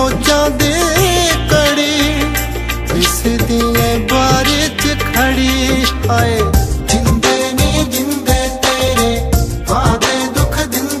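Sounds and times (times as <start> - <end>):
pop song with bass and beat: 0.0 - 11.0.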